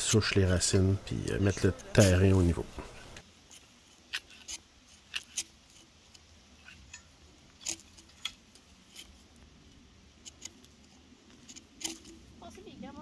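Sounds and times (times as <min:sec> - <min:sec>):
digging tools striking roots and stones: 0:00.0 - 0:09.4, 0:10.0 - 0:13.0.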